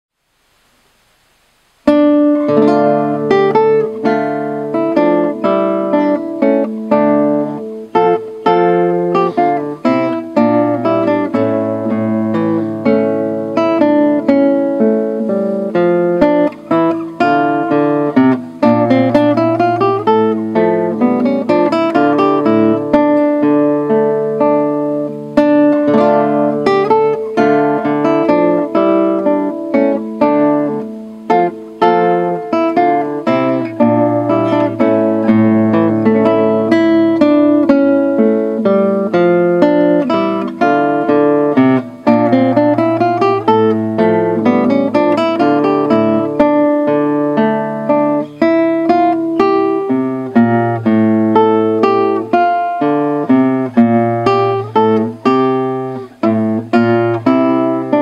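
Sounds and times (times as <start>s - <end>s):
fingerstyle classical guitar: 0.4s - 58.0s.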